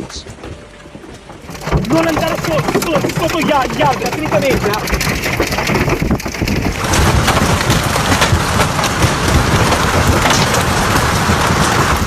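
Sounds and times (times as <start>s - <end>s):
hail and rain pelting: 1.2s - 12.0s.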